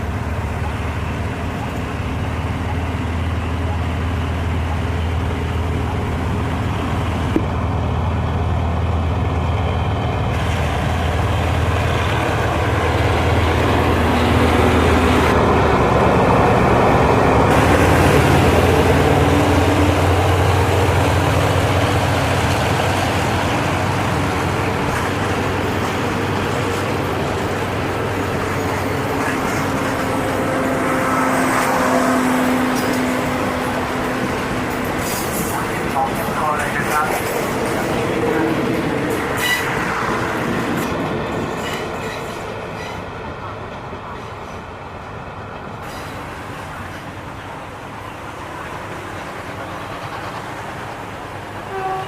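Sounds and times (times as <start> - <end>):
diesel locomotive engine hum: 0.0 - 52.0.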